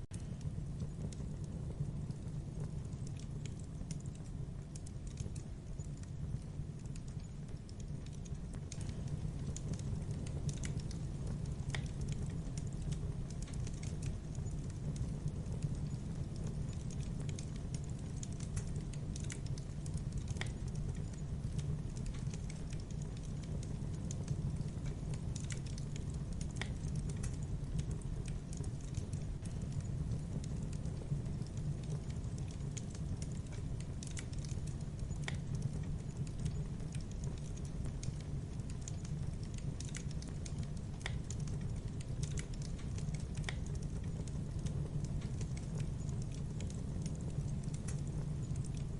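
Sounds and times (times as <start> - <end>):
campfire crackling: 0.0 - 48.9
sharp snap of burning wood: 2.1 - 48.9.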